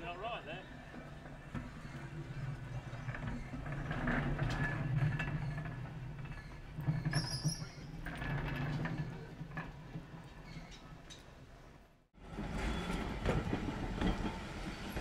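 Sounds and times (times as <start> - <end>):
tram motor and wheels rumbling: 0.0 - 15.0.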